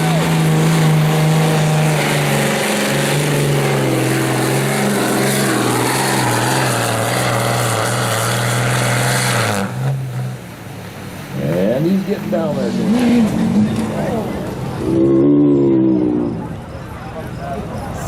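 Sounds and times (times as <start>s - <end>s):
diesel engine at high revs: 0.0s - 17.3s.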